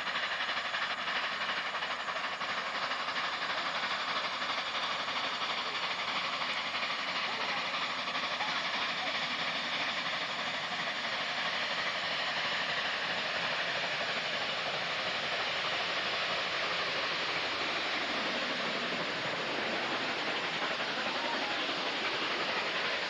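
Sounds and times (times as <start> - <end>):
steam train passing at speed: 0.0 - 23.0.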